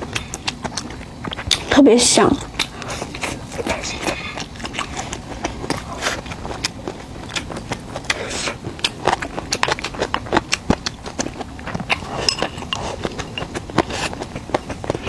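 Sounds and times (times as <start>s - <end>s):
person chewing food: 0.0s - 1.8s, 2.4s - 15.0s.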